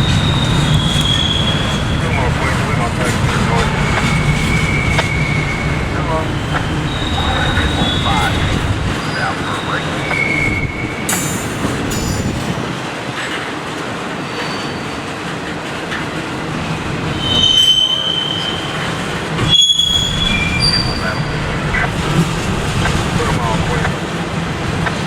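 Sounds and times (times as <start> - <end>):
steel wheels squealing on rail: 0.0 - 12.7, 14.1 - 15.5, 17.0 - 23.8
train cars rolling past: 0.0 - 25.0.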